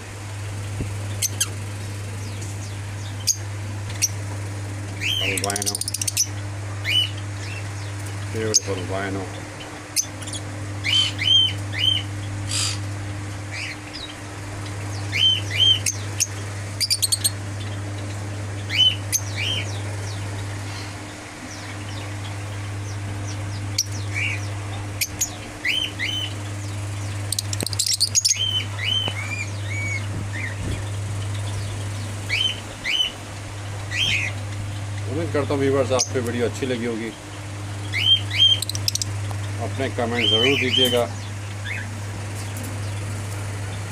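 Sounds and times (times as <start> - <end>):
steady low hum: 0.0 - 43.9
lovebirds chirping: 0.3 - 43.9.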